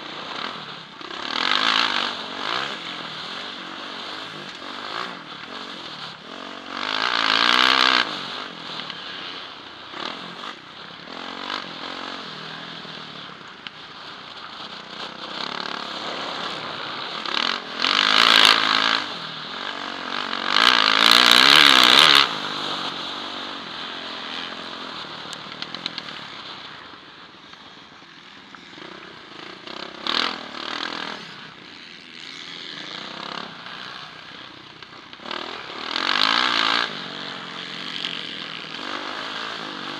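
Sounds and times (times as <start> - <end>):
motocross bike engine revving: 0.0 - 27.0, 28.1 - 39.9.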